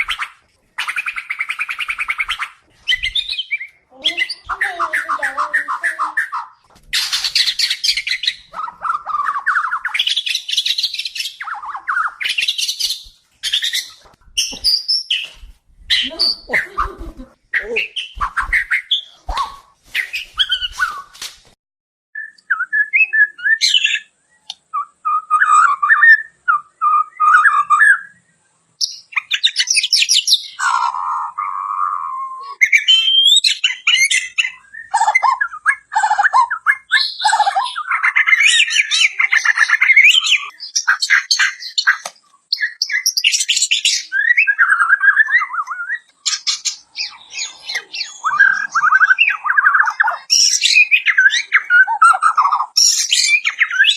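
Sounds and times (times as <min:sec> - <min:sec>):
bird singing: 0:00.0 - 0:21.2, 0:22.2 - 0:53.9.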